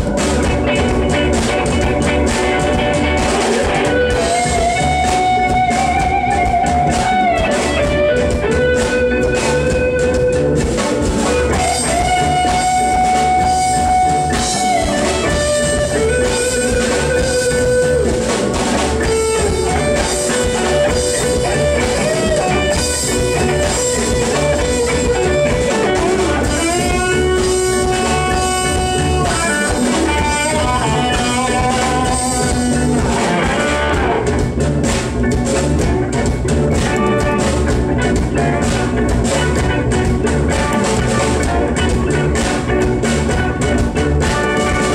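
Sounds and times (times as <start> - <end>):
bluesy guitar band music: 0.0 - 44.9.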